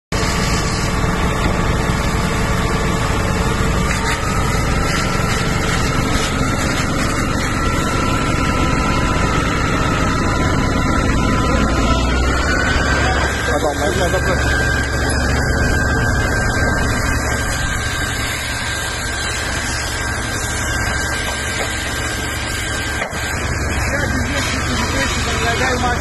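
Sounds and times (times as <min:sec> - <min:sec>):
engine running: 0:00.1 - 0:26.0
faint steady whine: 0:00.2 - 0:26.0
fire hose water jet rushing: 0:00.2 - 0:26.0.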